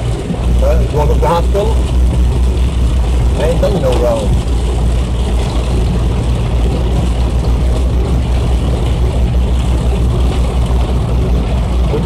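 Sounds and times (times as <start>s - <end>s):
car engine and tyres on wet road: 0.0s - 12.0s.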